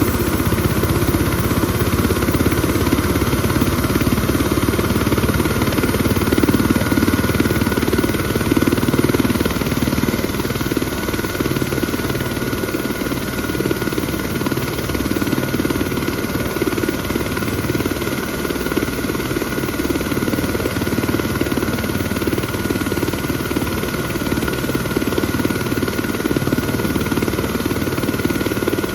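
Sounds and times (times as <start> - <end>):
helicopter rotor chop: 0.0 - 28.9.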